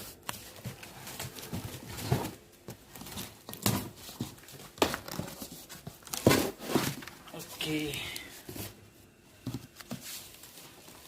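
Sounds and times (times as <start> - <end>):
packaging rustling and scraping: 0.0 - 11.0.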